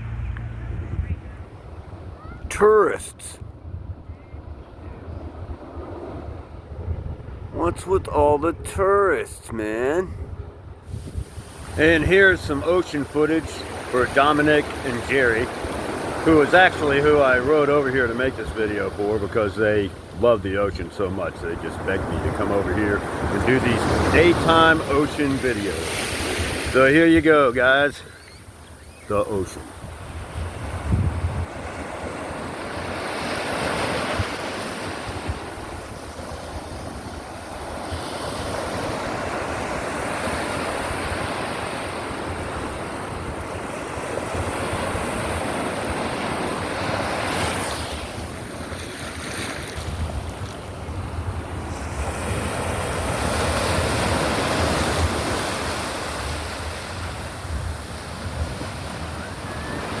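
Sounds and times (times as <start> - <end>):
wind buffeting microphone: 0.0 - 2.5, 3.4 - 9.1, 9.9 - 48.8, 49.5 - 60.0
waves breaking on shore: 0.0 - 60.0.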